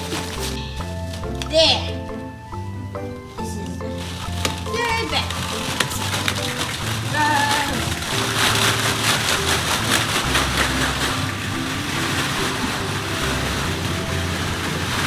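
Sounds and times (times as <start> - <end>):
plastic balls clattering onto seats: 0.0 - 1.6, 3.2 - 15.0.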